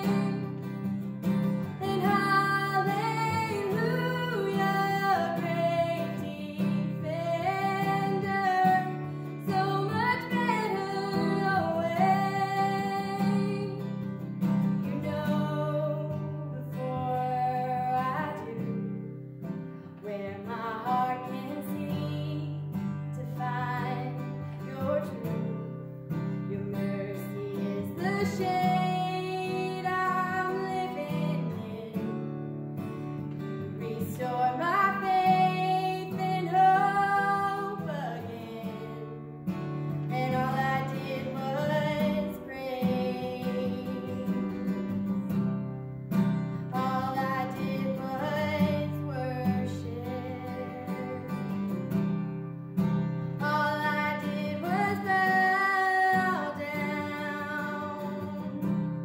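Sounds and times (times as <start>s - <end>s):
woman singing: 0.0s - 32.6s, 33.2s - 59.0s
strummed acoustic guitar: 0.0s - 59.0s.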